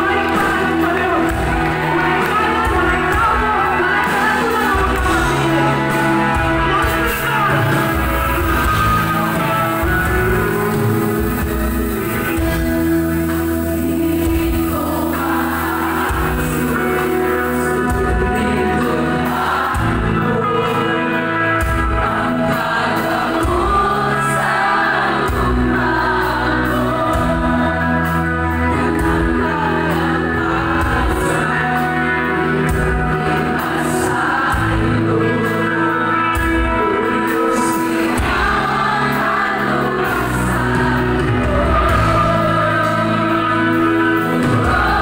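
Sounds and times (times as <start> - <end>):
bass guitar: 0.0 - 45.0
drums: 0.0 - 45.0
electric guitars: 0.0 - 45.0
many voices singing together: 0.0 - 45.0
sung vocals: 0.0 - 45.0.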